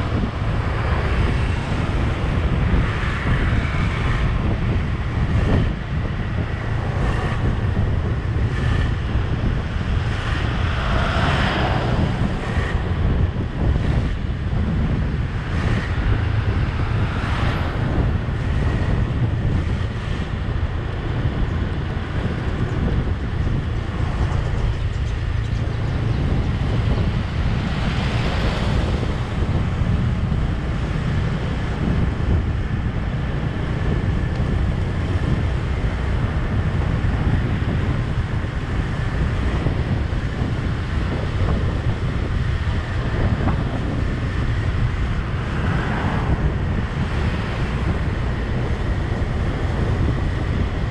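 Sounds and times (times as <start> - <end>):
low wind rumble on microphone: 0.0 - 50.9
road and engine noise: 0.0 - 50.9.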